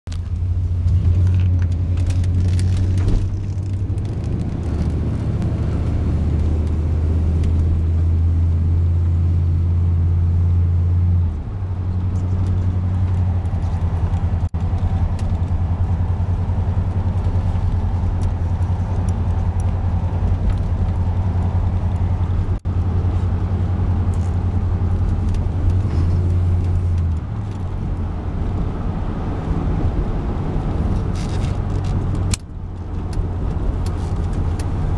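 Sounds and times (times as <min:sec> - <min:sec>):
pickup engine droning: 0:00.1 - 0:34.9.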